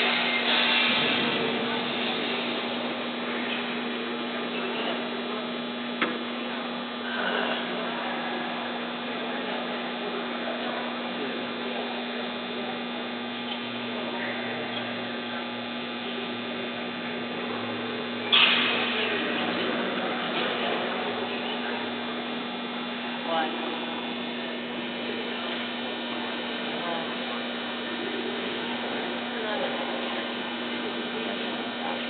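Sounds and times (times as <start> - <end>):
electrical hum: 0.0 - 32.0
indistinct background noise: 0.0 - 32.0.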